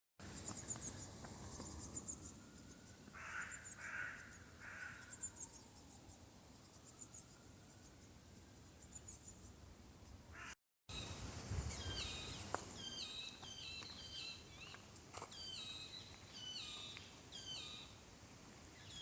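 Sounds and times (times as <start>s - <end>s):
songbirds singing: 0.2s - 18.0s, 18.7s - 19.0s.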